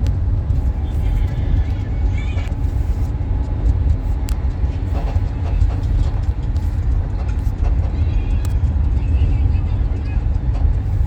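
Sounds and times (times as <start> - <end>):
car low rumble: 0.0 - 11.0.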